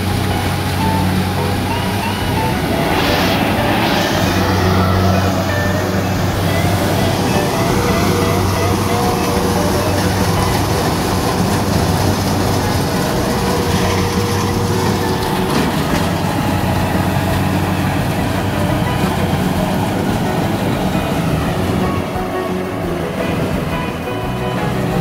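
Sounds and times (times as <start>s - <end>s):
combine harvester machine drone: 0.0s - 25.0s.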